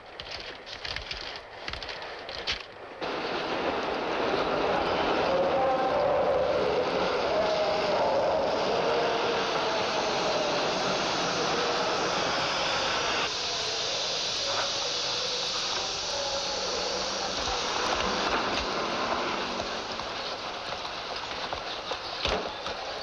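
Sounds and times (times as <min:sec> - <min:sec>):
railway train noise: 0:00.0 - 0:23.0.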